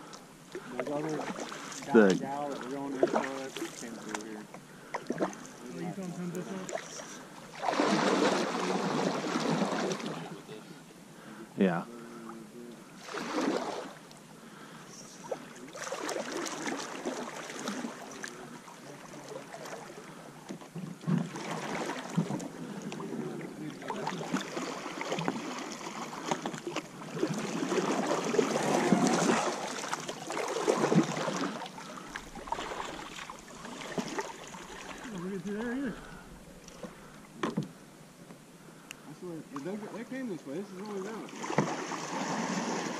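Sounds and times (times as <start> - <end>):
paddles splashing in water: 0.0 - 10.5, 12.9 - 38.0, 39.2 - 42.9.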